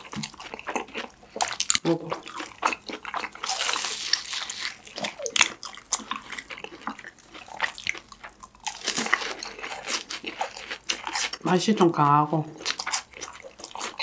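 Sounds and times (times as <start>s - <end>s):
crunchy chewing of fried snacks: 0.0s - 14.0s.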